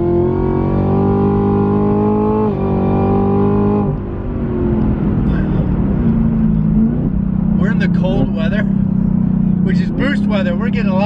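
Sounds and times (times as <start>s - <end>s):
car engine revving at full throttle: 0.0s - 11.0s.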